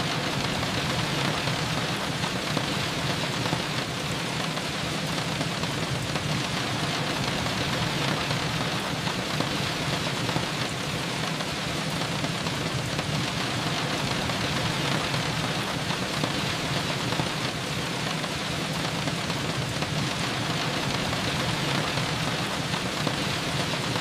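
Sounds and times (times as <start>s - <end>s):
rain pattering on surfaces: 0.0s - 24.0s.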